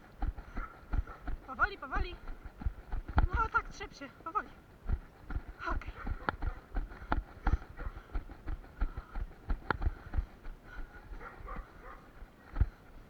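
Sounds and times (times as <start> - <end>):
running footsteps on trail: 0.0 - 13.0.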